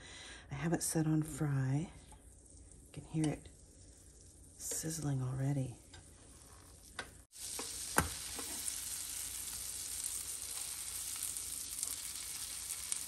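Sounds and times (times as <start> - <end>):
butter sizzling in frying pan: 2.0 - 13.0.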